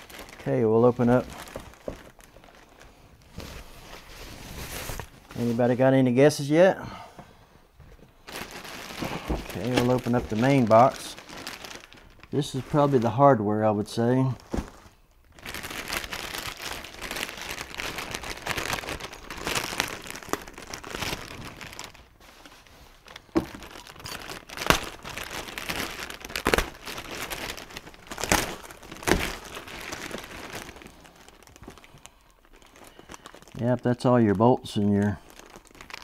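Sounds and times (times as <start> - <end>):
plastic bag crinkling: 0.0 - 6.5, 7.8 - 36.0.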